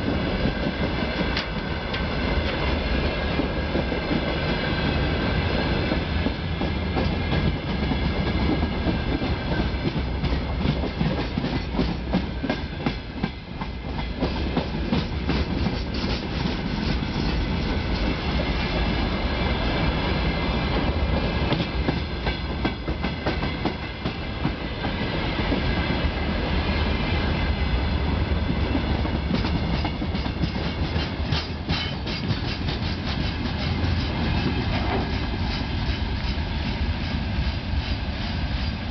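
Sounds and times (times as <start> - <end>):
clickety-clack over rail joints: 0.0 - 26.3, 28.5 - 38.8
steel wheels rumbling on rail: 0.0 - 38.9.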